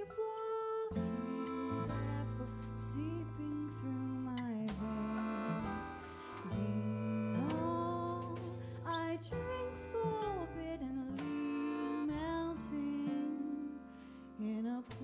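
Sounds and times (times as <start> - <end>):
slow live band music: 0.0 - 15.0
woman singing wordless melody: 0.0 - 15.0.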